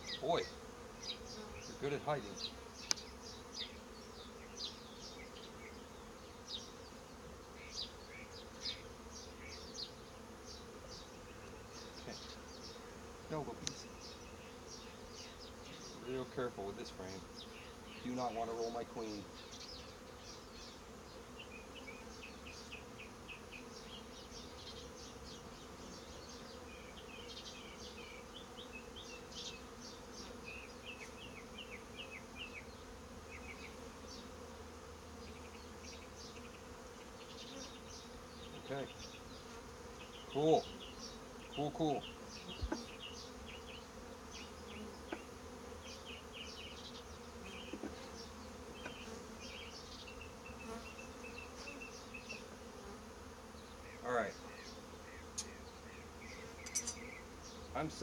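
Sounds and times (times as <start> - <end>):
bees buzzing: 0.0 - 58.0.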